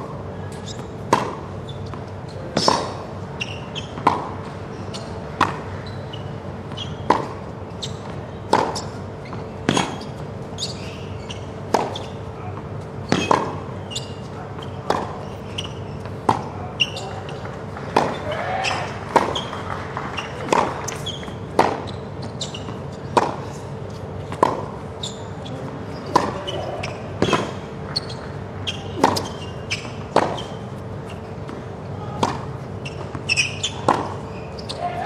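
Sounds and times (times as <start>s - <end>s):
tennis ball bouncing: 0.6s - 35.0s
tennis balls struck by racquets: 0.6s - 35.0s.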